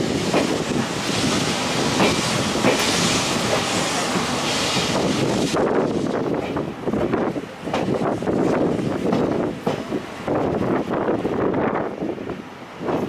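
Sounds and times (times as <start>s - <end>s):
train wheels clickety-clack: 0.0s - 10.6s
steady rushing hiss: 0.0s - 11.6s.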